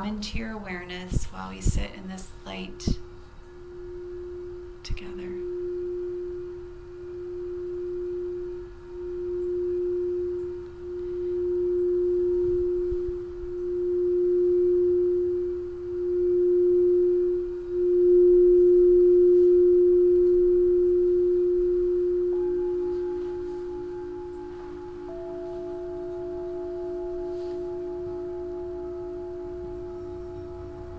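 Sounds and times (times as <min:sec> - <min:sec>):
crystal singing bowl tone: 0:00.0 - 0:30.9
lower wavering bowl tone: 0:00.0 - 0:30.9.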